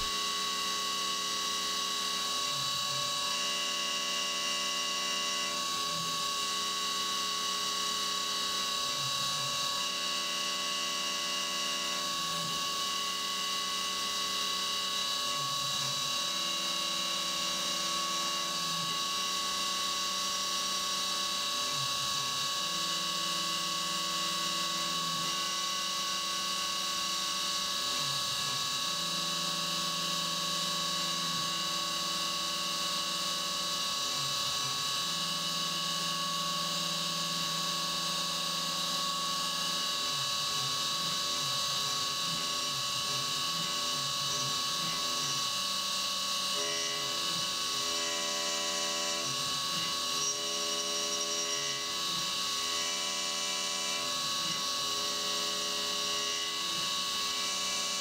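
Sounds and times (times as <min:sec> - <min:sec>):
low machine tone: 0:00.0 - 0:58.0
milling machine spindle whine: 0:00.0 - 0:58.0.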